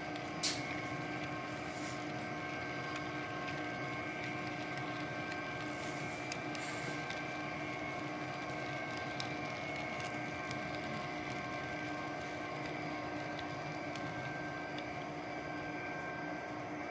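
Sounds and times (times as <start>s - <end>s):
steady mechanical hum: 0.0s - 16.9s.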